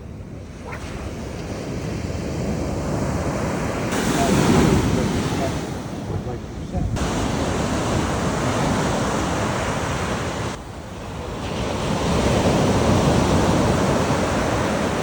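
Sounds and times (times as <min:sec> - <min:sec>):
ocean surf washing on a beach: 0:00.0 - 0:15.0
wind on the microphone: 0:00.0 - 0:15.0.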